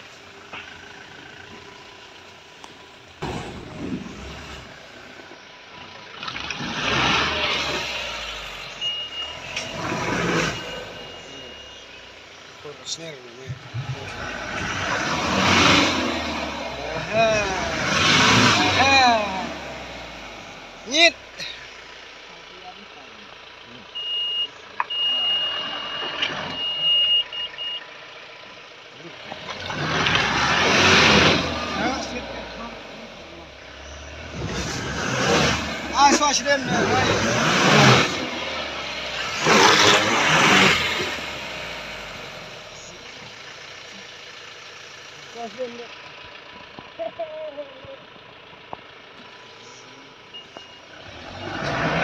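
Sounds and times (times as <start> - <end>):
tyres in mud: 0.0 - 22.2, 28.6 - 52.0
diesel engine surging: 0.0 - 52.0.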